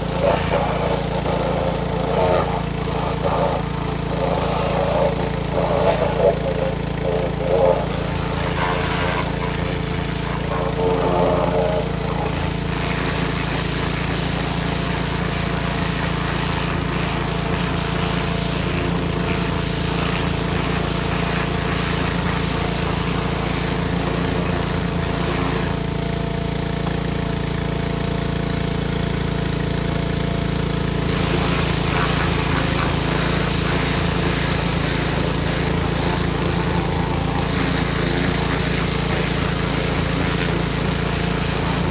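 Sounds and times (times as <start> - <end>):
bursts of work noise: 0.0 - 41.9
machine motor pulsing: 0.0 - 41.9.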